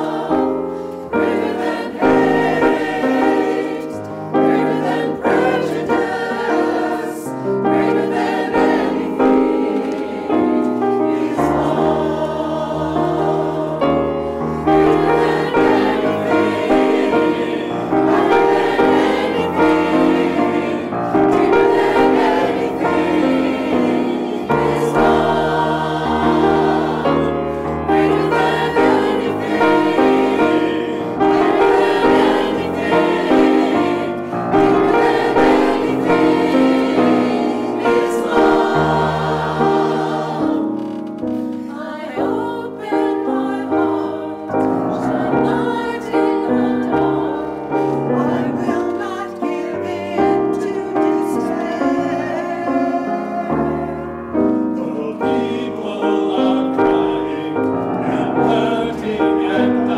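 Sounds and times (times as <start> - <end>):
mixed choir singing in harmony: 0.0 - 59.9
piano accompaniment: 0.0 - 59.9.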